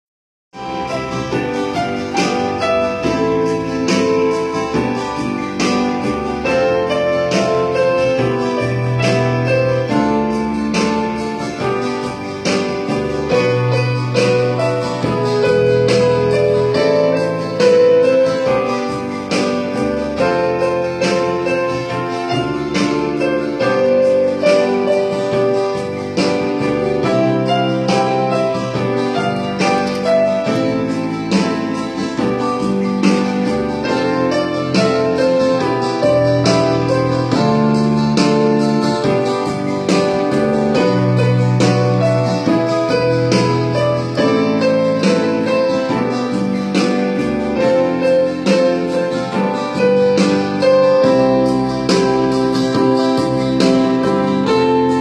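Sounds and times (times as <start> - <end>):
electronic keyboard melody: 0.5 - 55.0.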